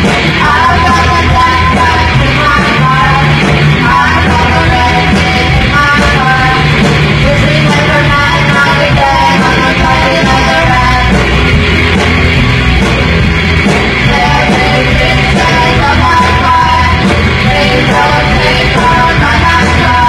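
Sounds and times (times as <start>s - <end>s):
punk rock band playing live: 0.0s - 20.0s.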